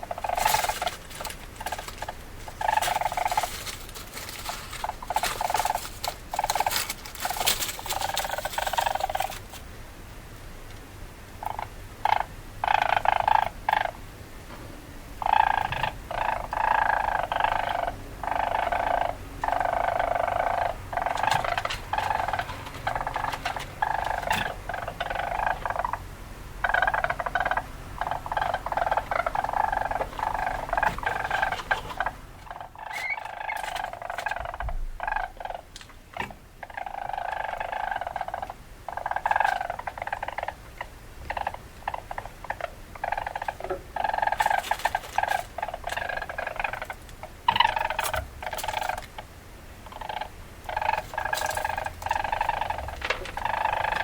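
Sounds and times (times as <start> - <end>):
weasel chattering: 0.0 - 9.6, 11.4 - 14.0, 15.2 - 54.0.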